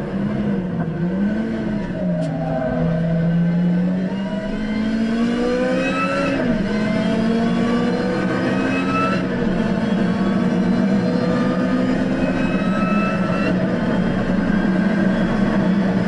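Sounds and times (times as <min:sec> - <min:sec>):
car engine revving with upshifts: 0:00.0 - 0:16.0.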